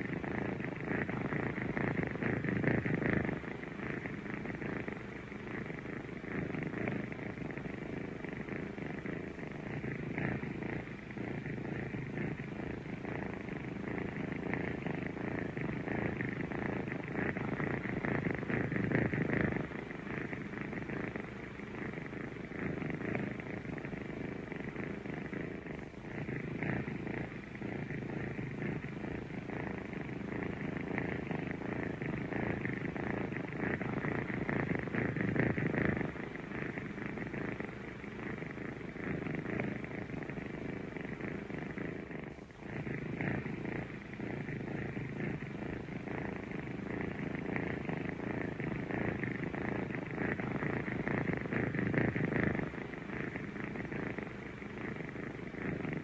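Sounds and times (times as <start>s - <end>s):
kittens purring: 0.0s - 56.0s.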